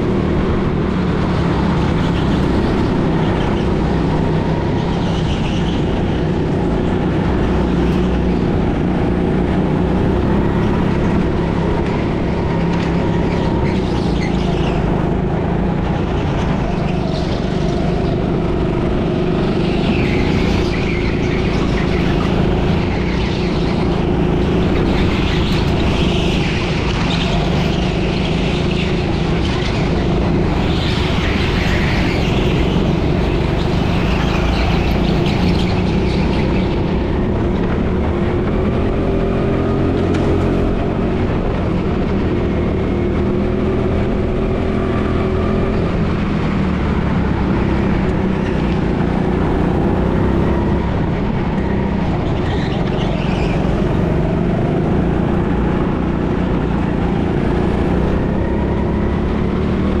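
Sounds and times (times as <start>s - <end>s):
go-kart engine running: 0.0s - 60.0s.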